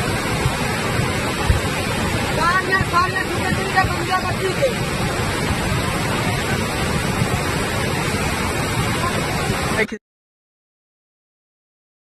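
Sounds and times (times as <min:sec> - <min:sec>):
river water rushing: 0:00.0 - 0:09.9.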